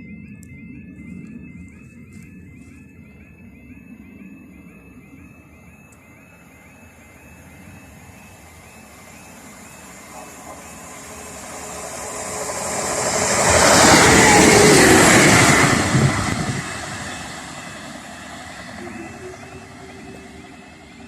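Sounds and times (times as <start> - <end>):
crossing warning alarm warble: 0.0 - 21.0
train passing: 0.0 - 21.0.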